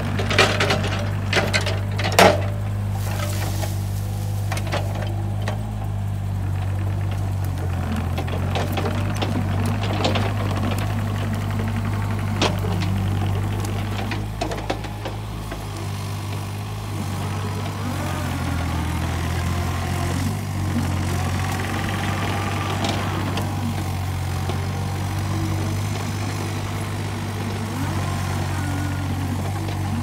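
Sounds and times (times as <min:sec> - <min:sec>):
excavator diesel engine running: 0:00.0 - 0:30.0
hydraulic whine: 0:00.0 - 0:30.0.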